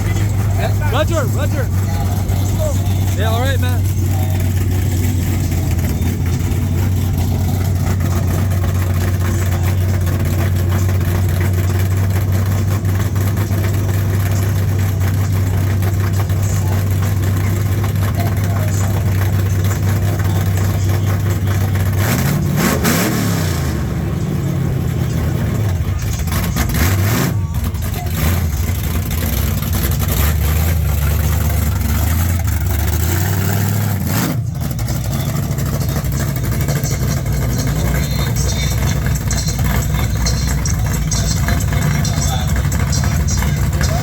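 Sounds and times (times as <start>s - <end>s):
car engine idling and revving: 0.0s - 44.0s.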